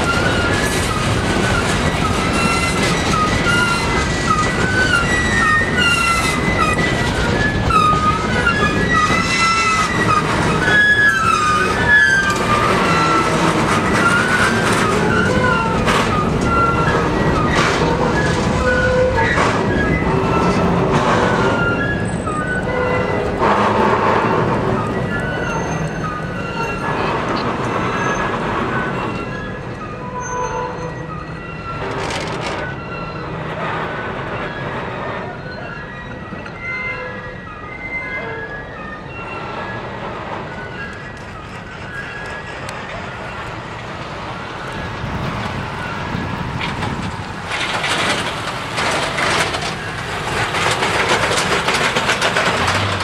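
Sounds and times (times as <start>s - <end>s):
high-pitched wheel squeals: 0.0s - 53.0s
steel wheels rumbling on rail: 0.0s - 53.0s.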